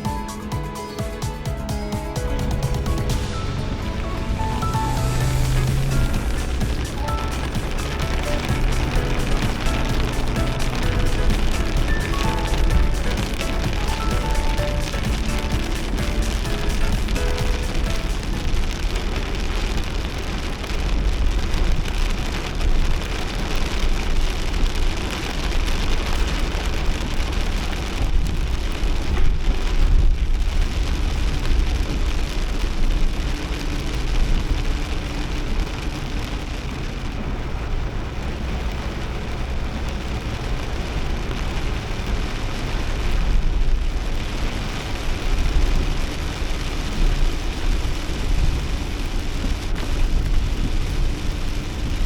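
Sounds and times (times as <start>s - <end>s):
car and road rumble: 2.3s - 52.0s
heavy rain on a car: 2.4s - 52.0s.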